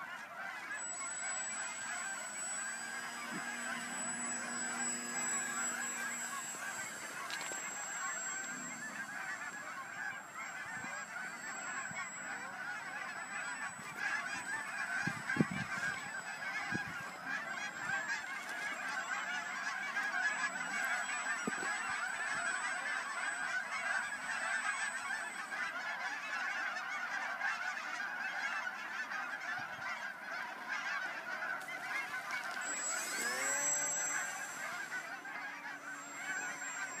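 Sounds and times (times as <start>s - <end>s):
geese honking: 0.0s - 37.0s
model plane electric motor whine: 0.0s - 37.0s.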